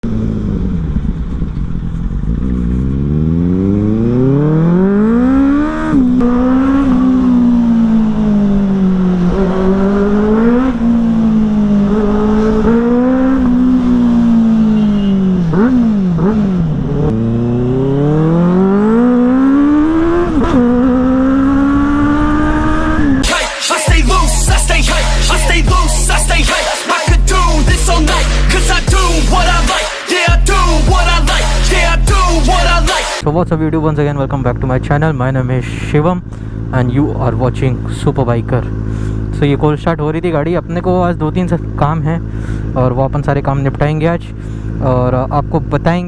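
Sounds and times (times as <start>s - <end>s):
motorcycle engine revving: 0.0s - 33.3s, 34.2s - 46.0s.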